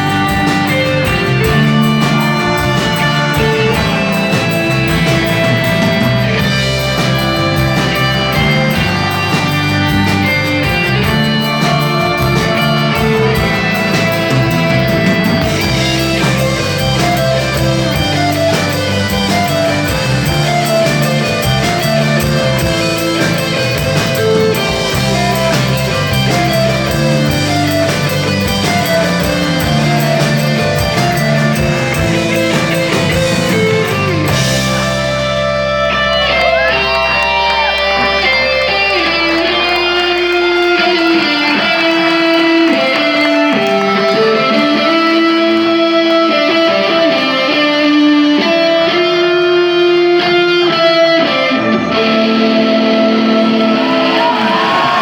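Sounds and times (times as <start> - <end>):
bass guitar: 0.0 - 55.0
drums: 0.0 - 55.0
electric guitars: 0.0 - 55.0.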